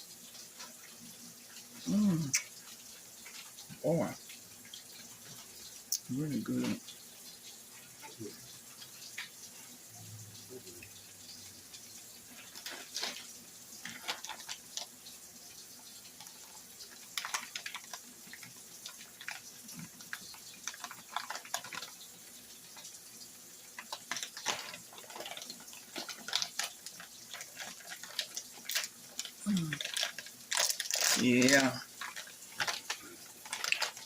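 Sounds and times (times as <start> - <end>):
faint sizzle: 0.0 - 34.0
oil crackling and popping in pan: 0.0 - 34.0.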